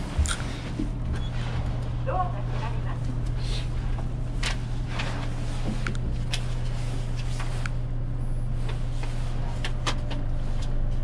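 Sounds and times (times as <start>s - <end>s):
lift hum: 0.0s - 11.0s.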